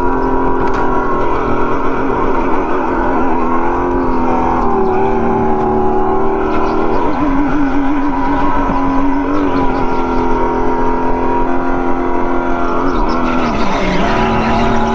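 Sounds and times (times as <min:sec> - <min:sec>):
go-kart motor droning: 0:00.0 - 0:14.9.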